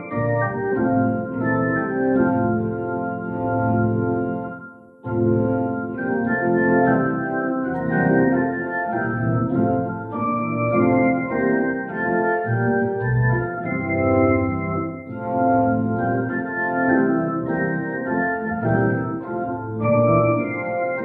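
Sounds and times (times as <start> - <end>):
organ playing sustained chords: 0.0 - 21.0.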